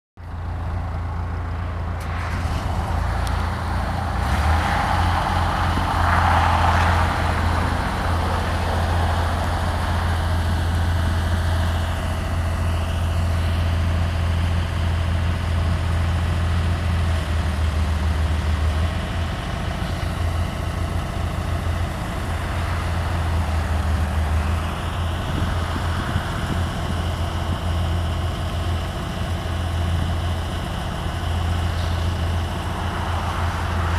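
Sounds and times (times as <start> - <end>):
boom lift engine running: 0.2 - 33.9
constant low hum: 0.2 - 33.9.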